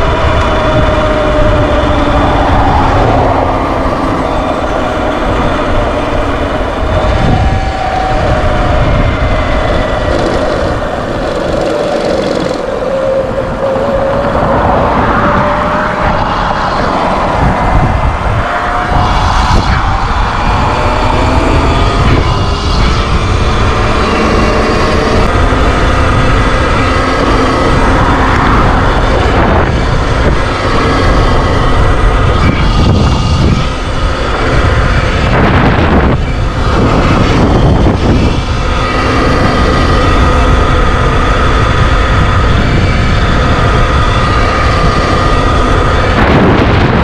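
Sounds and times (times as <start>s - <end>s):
electric motor whine: 0.0s - 47.0s
wind rushing on microphone: 0.0s - 47.0s.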